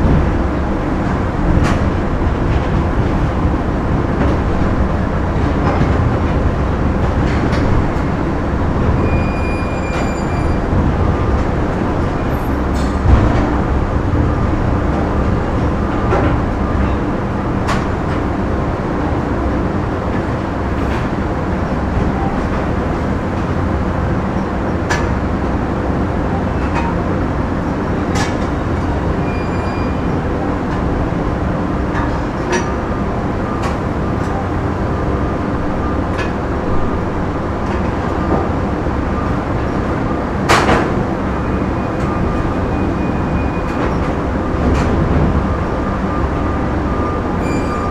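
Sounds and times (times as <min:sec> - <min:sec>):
machinery noise and hum: 0:00.0 - 0:47.9.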